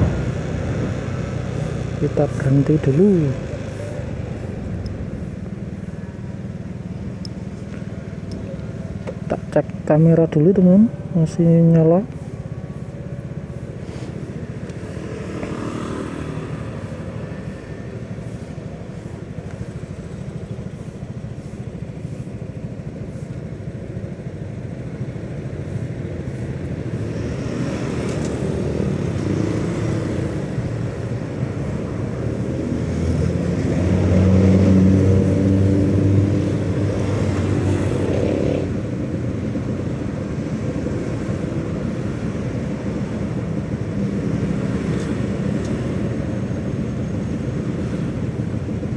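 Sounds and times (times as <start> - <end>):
nearby engine humming: 0.0 - 48.9
vehicle engines idling in traffic: 0.0 - 48.9.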